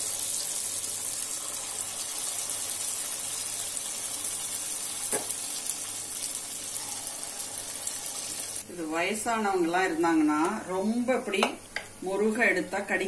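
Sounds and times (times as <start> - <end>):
batter sizzling in oil: 0.0 - 13.0.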